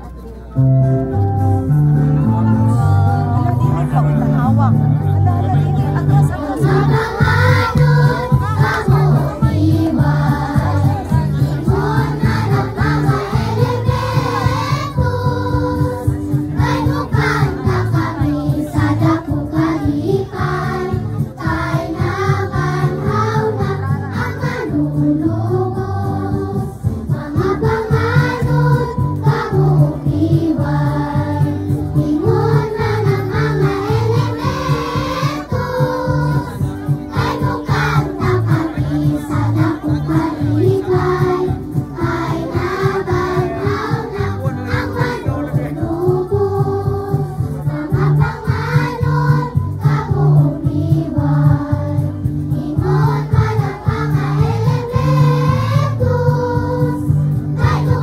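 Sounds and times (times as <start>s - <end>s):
instrumental accompaniment: 0.0s - 58.0s
choir singing a hymn: 6.0s - 58.0s.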